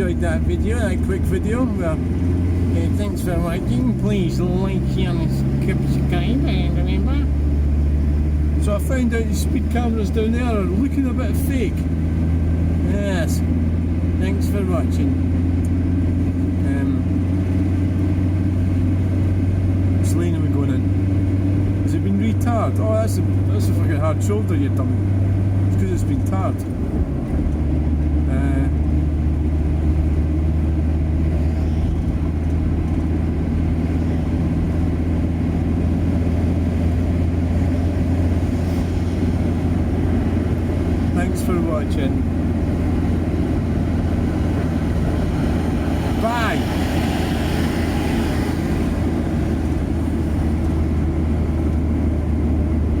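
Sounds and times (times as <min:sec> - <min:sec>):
car engine and tyre drone: 0:00.0 - 0:53.0.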